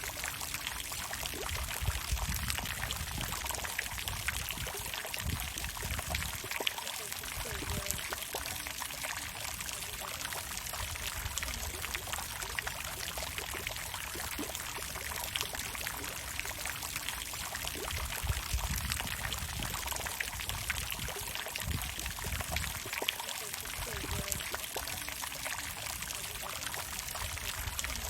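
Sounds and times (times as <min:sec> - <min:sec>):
water fountain splashing: 0:00.0 - 0:28.0.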